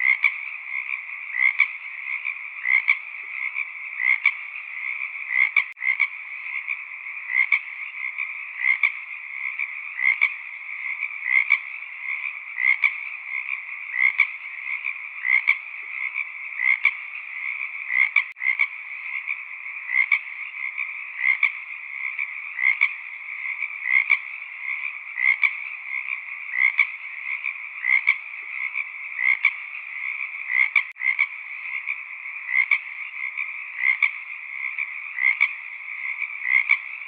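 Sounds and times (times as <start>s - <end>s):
chorus of frogs calling: 0.0s - 37.0s
louder frog calls: 0.0s - 37.0s.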